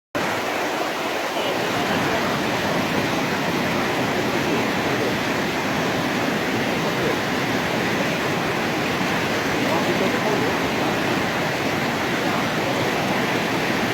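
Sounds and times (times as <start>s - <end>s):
river rapid rushing: 0.2s - 13.9s.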